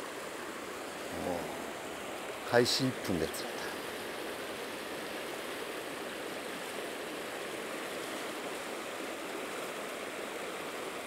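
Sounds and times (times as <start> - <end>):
river rapids rushing over rocks: 0.2 - 11.0.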